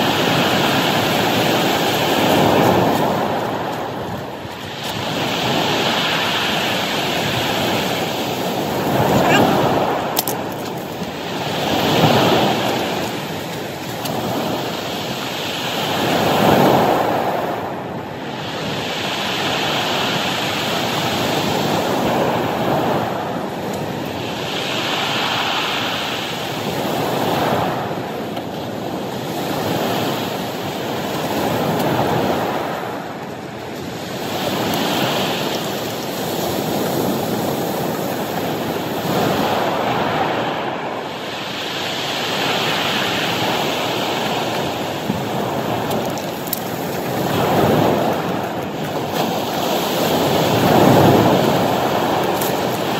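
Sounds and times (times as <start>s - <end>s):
waves breaking on cobble beach: 0.0s - 52.9s.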